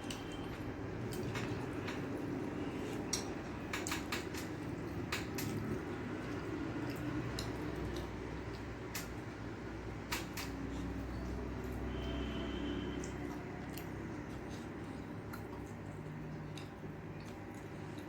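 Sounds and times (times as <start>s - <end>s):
food mixed by hand and chewed: 0.0s - 18.0s.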